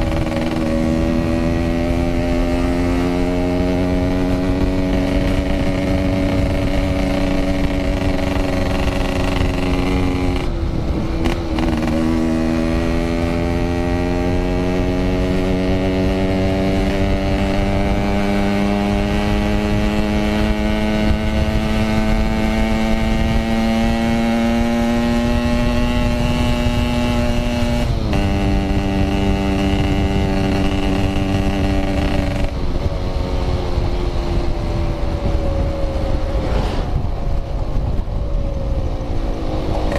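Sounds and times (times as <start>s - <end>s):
motorcycle two-stroke engine: 0.0s - 33.5s
low wind rush: 0.0s - 39.9s.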